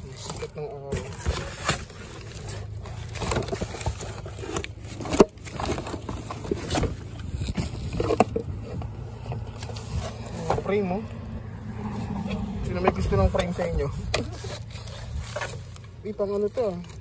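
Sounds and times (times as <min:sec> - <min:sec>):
plastic and fabric rustling: 0:00.0 - 0:11.0, 0:12.9 - 0:17.0
rummaging through cardboard box: 0:00.0 - 0:17.0.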